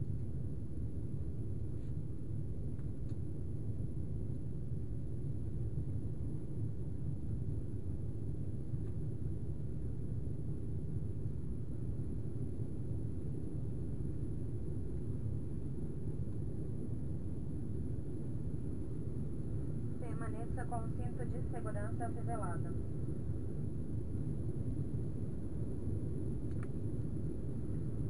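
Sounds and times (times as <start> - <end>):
jet engine and airflow rumble: 0.0 - 28.0.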